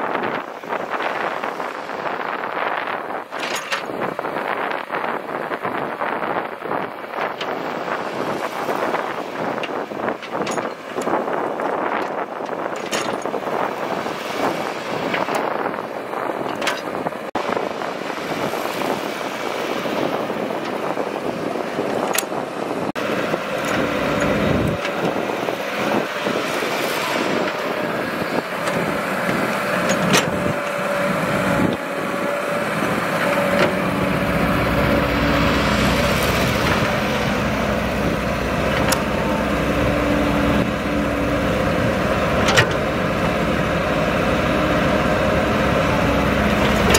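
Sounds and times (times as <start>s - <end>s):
diesel engines running under load: 0.0s - 46.9s
steady engine drone: 0.0s - 46.9s.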